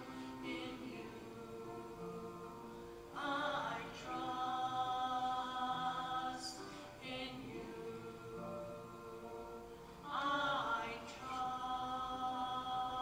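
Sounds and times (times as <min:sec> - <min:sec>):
choir singing long notes: 0:00.0 - 0:13.0.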